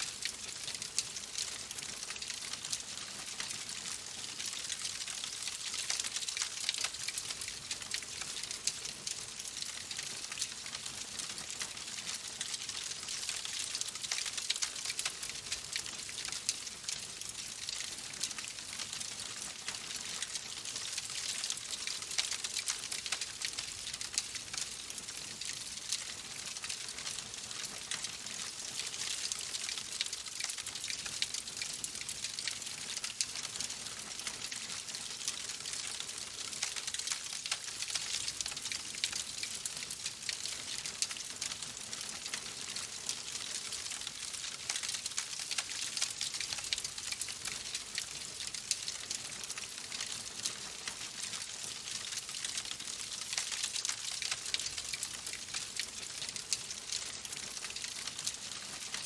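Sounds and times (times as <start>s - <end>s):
fire crackling and hissing: 0.2s - 59.0s.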